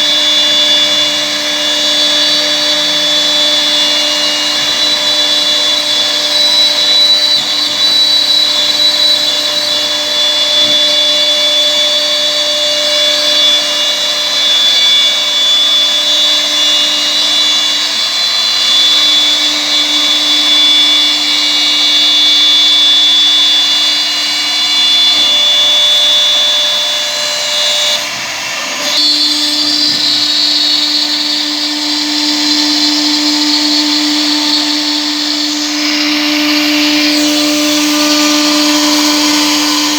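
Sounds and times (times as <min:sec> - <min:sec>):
router spindle whining cutting wood: 0:00.0 - 0:39.9.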